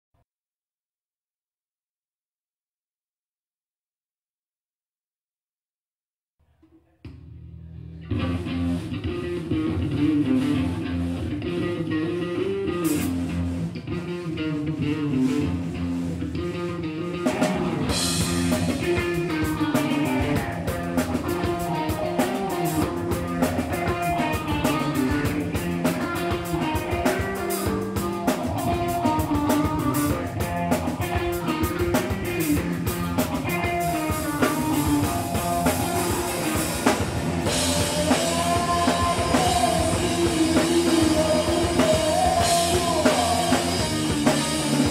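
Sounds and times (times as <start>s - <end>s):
electric guitar and bass riff: 7.0s - 44.9s
drum kit beat: 8.2s - 44.9s.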